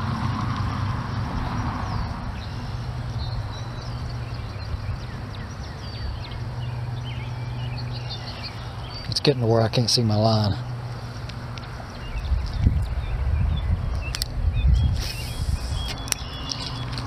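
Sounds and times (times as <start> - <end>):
small birds chirping: 1.1 - 17.0.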